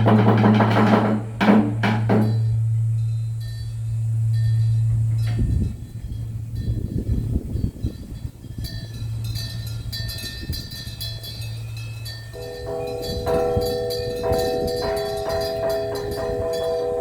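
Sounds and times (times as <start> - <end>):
low steady hum: 0.0 - 17.0
temple bell strokes: 2.2 - 17.0
high-pitched bell tinkling: 3.0 - 17.0.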